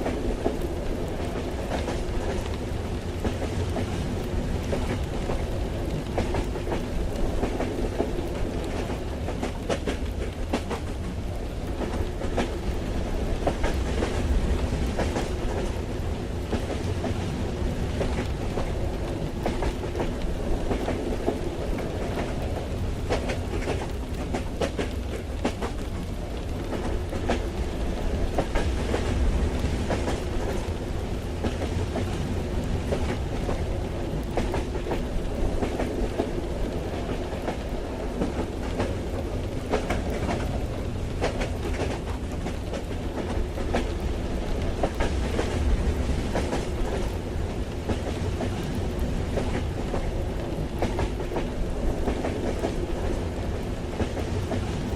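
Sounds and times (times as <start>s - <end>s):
train low rumble: 0.0s - 54.9s.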